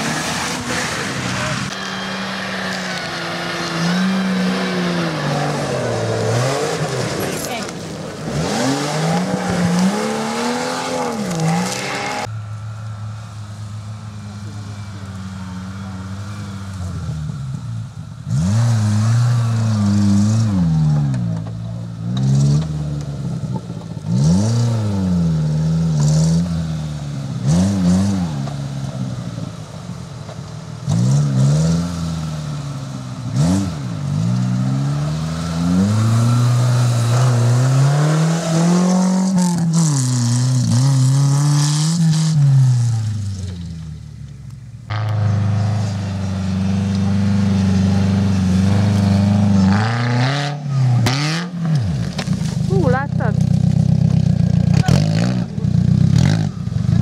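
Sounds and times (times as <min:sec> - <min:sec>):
off-road vehicle engine revving: 0:00.0 - 0:29.8, 0:30.8 - 0:44.2, 0:44.8 - 0:57.0.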